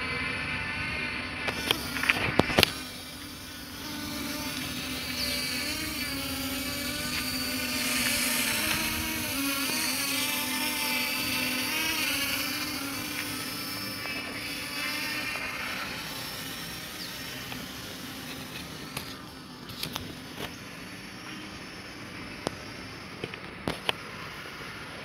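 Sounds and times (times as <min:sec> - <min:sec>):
drone propellers buzzing: 0:00.0 - 0:25.0.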